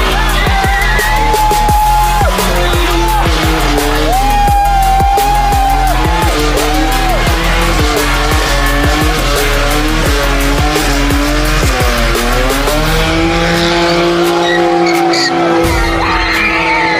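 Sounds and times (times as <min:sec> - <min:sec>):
car tyres squealing: 0:00.0 - 0:16.9.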